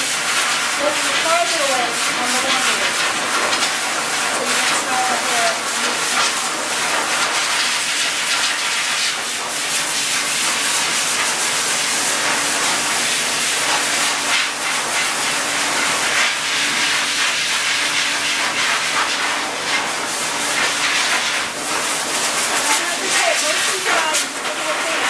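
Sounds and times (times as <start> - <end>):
dryer air rushing: 0.0 - 25.0.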